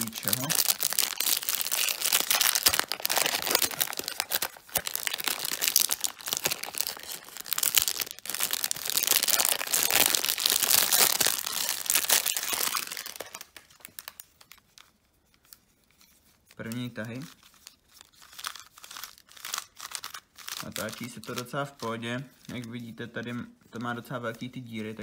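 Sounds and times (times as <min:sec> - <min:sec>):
packaging crinkling and tearing: 0:00.0 - 0:15.6, 0:16.5 - 0:23.2.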